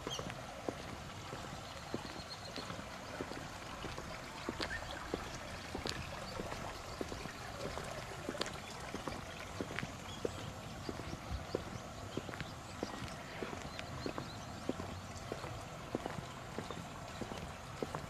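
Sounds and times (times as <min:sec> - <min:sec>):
footsteps on stone path: 0:00.0 - 0:18.0
running water: 0:00.0 - 0:18.0.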